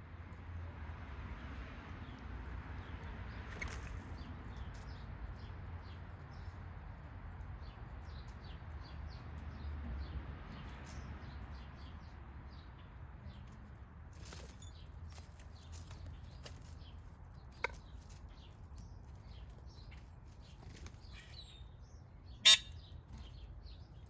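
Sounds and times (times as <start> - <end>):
small birds chirping: 2.8 - 6.8, 7.6 - 24.0.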